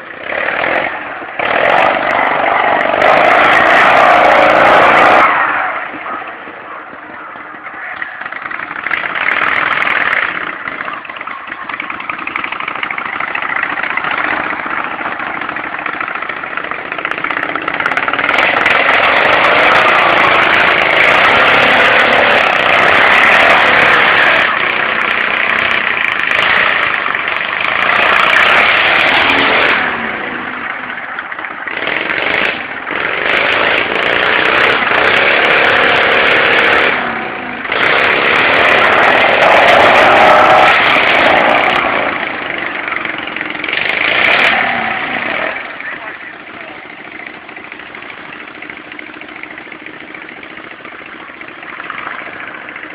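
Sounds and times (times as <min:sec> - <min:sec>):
riding lawn mower engines revving: 0:00.0 - 0:52.9.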